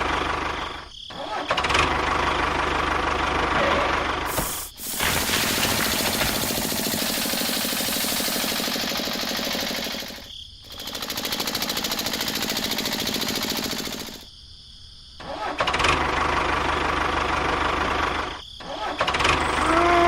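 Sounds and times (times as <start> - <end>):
small engine running: 0.0 - 14.3, 15.2 - 20.0.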